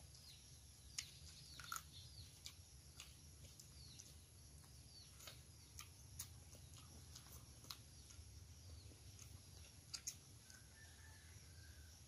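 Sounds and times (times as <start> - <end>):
chewing and smacking: 0.0 - 11.8
faint bird chirps: 0.0 - 12.0.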